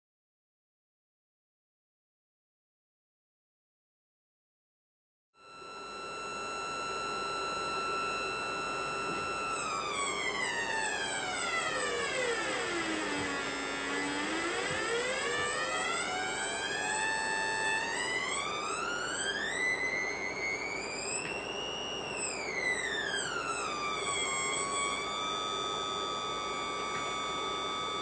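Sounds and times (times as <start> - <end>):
high-pitched electrical whine: 5.4 - 28.0.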